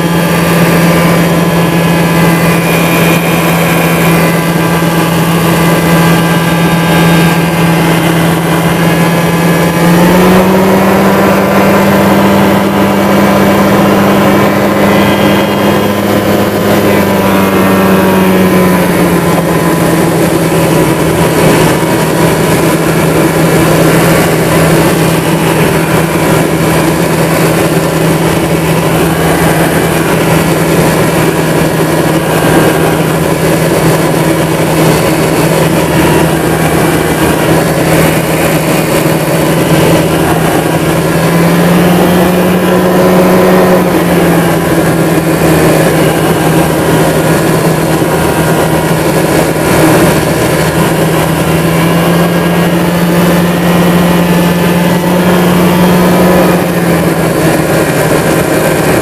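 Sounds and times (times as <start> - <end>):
ultralight engine and propeller: 0.0 - 59.0.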